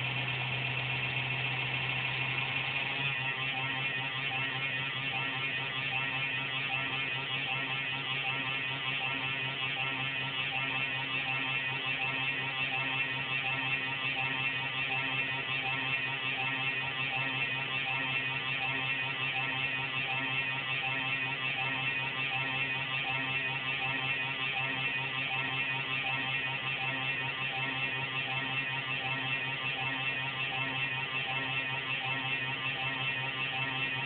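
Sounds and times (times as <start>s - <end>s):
computer buzzing and whirring: 0.0s - 34.0s.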